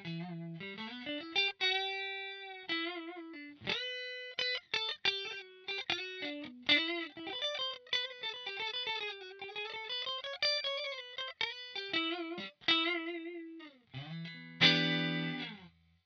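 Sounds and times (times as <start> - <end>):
electric guitar lead line: 0.0 - 15.7.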